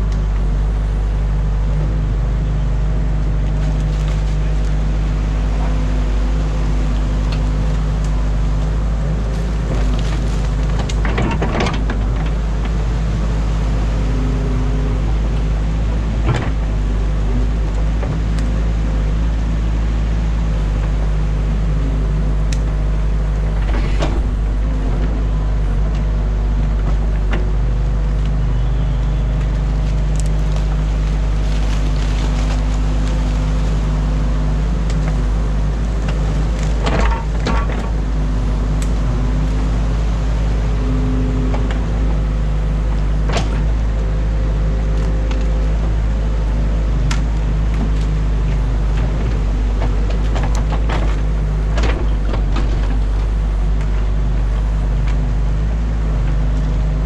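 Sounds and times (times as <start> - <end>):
excavator diesel engine running: 0.0 - 57.0
hydraulics working: 0.0 - 57.0.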